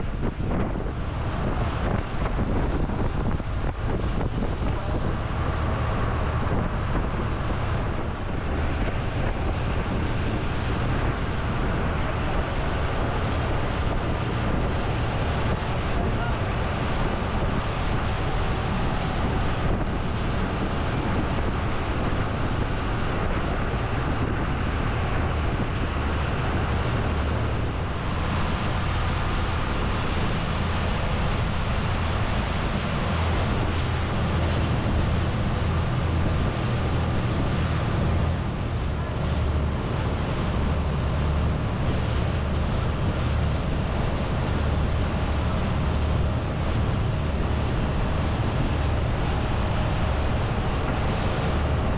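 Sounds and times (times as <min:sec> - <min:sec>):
boat engine droning: 0:00.0 - 0:51.9
wind on microphone: 0:00.0 - 0:51.9.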